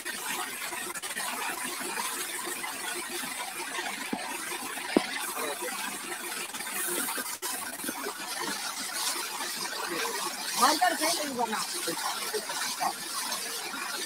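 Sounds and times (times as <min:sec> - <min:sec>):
hose water spraying on metal: 0:00.0 - 0:14.0.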